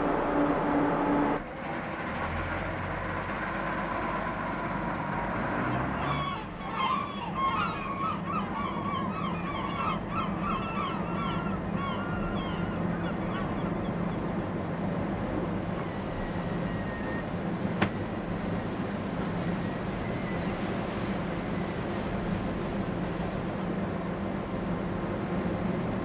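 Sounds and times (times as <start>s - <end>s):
ship engines humming: 0.0s - 26.0s.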